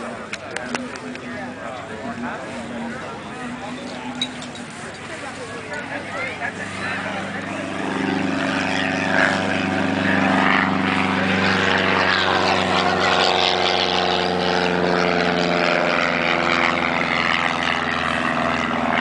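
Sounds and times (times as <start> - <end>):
large piston engine running: 0.0 - 19.0.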